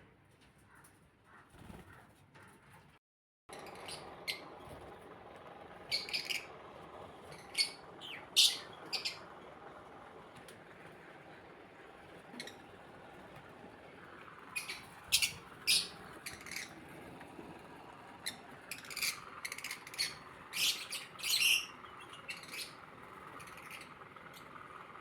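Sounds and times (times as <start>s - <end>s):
birds chirping: 3.5s - 25.0s.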